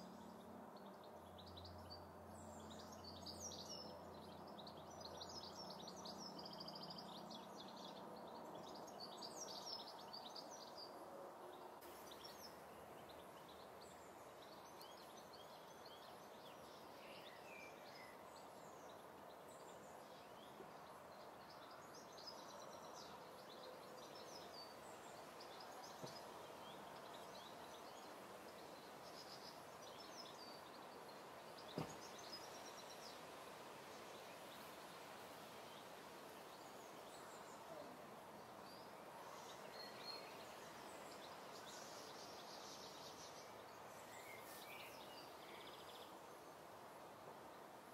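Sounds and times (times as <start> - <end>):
ambient hiss: 0.0 - 47.9.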